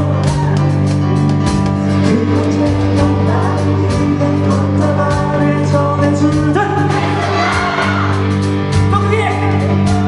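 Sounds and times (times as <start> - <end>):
amplified electric instruments: 0.0 - 10.0
steady drum beat: 0.0 - 10.0.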